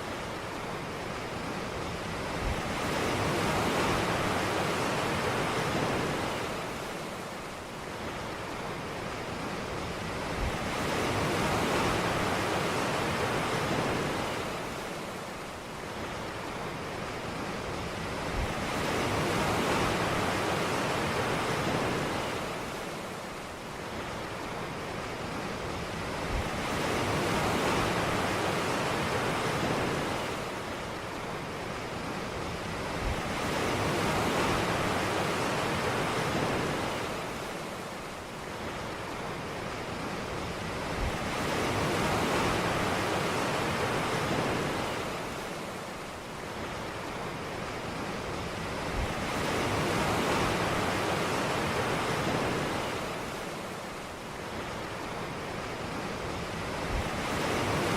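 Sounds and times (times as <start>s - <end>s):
ocean waves breaking on a beach: 0.0s - 57.9s.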